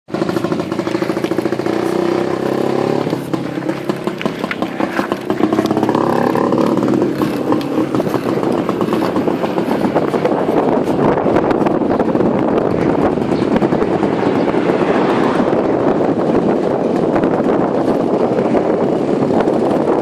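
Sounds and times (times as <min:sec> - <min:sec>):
motorcycle two-stroke engine running: 0:00.1 - 0:20.0.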